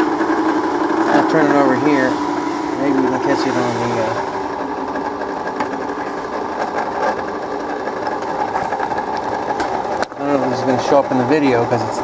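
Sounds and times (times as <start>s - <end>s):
film projector whirring: 0.0s - 12.0s.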